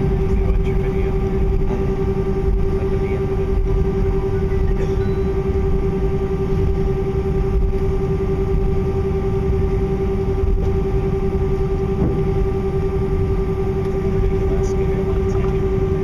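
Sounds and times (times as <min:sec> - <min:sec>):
airplane cabin rumble: 0:00.0 - 0:16.0
constant whine: 0:00.0 - 0:16.0.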